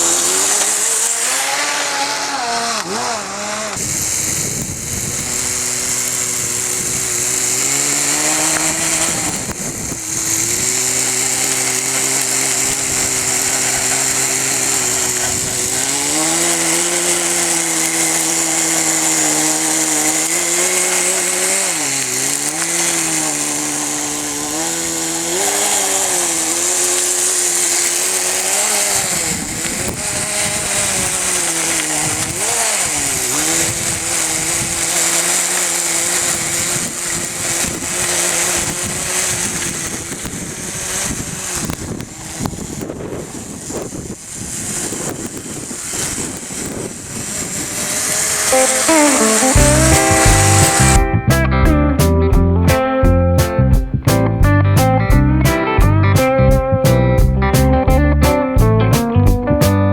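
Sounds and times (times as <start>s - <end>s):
small two-stroke engine running: 0.0s - 59.9s.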